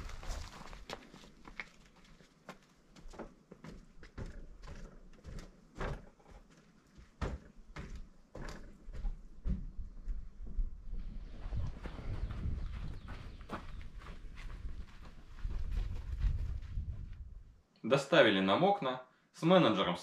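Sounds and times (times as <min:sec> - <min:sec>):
footsteps: 0:00.0 - 0:17.6.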